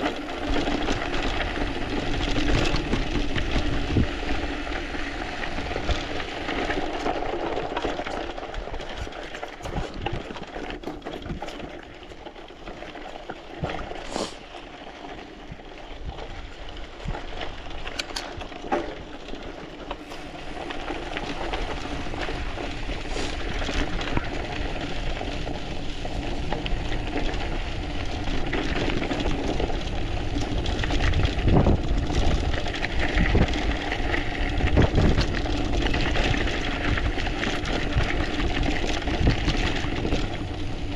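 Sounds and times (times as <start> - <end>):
wind rumble on microphone: 0.0 - 14.1, 15.1 - 40.9
bike rattling over bumps: 0.0 - 40.9
bike tyres crackling over stones: 0.0 - 40.9.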